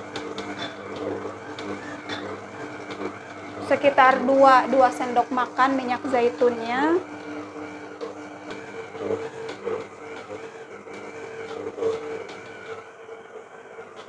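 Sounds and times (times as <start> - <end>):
stand mixer kneading dough: 0.0 - 14.0.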